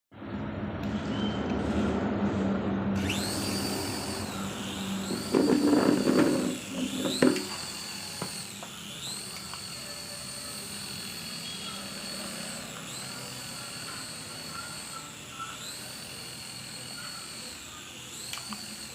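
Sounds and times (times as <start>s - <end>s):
rc helicopter motor whining: 3.0s - 18.9s.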